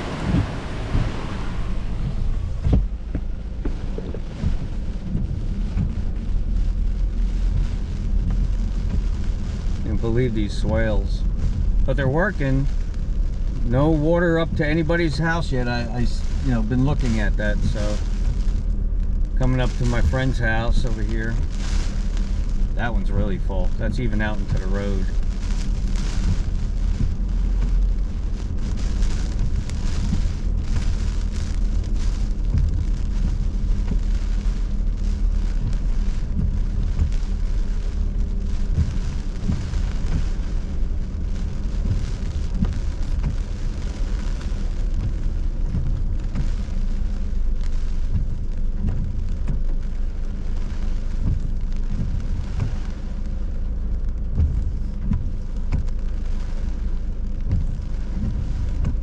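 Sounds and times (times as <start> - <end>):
car driving rumble: 0.0 - 59.0
heavy rain on car roof: 0.0 - 59.0.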